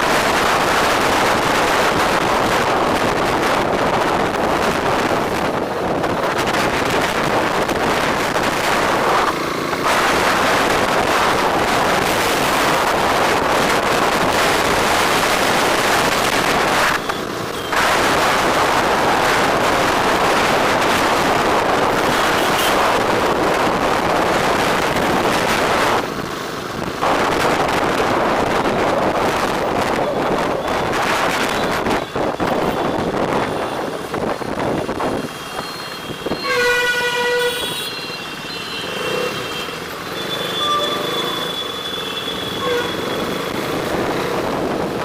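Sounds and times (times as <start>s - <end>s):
wind rushing over microphone: 0.0s - 17.0s, 17.7s - 36.4s, 43.2s - 45.0s
road noise: 0.0s - 45.0s.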